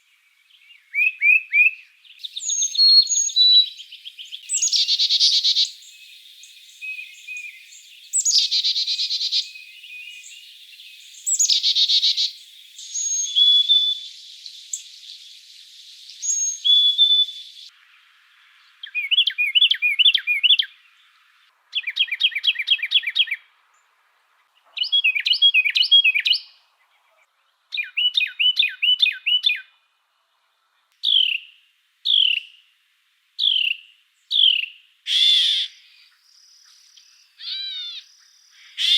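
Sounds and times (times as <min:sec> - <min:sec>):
bird singing trilled phrases: 0:00.2 - 0:17.7, 0:18.6 - 0:29.8, 0:31.0 - 0:32.6, 0:33.4 - 0:38.9.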